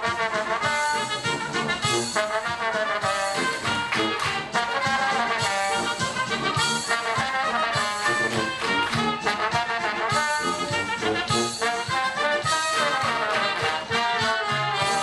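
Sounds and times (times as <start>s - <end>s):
oompah band playing: 0.0s - 15.0s.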